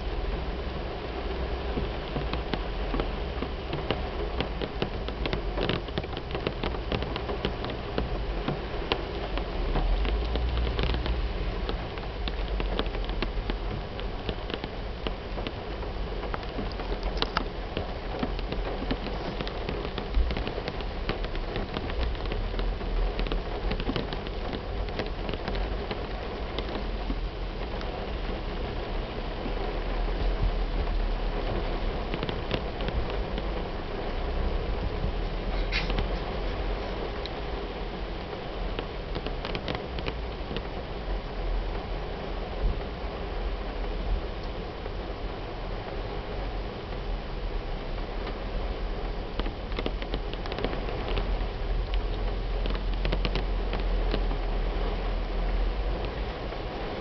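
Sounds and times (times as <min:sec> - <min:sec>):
deep low rumble: 0:00.0 - 0:57.0
heavy rain on a car roof: 0:00.0 - 0:57.0.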